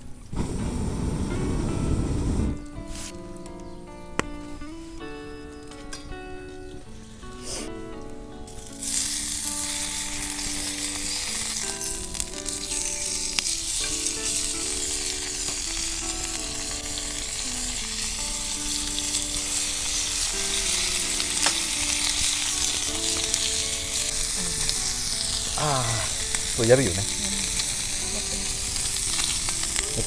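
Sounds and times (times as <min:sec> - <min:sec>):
meat sizzling: 0:00.0 - 0:30.0
soft background music: 0:00.0 - 0:30.0.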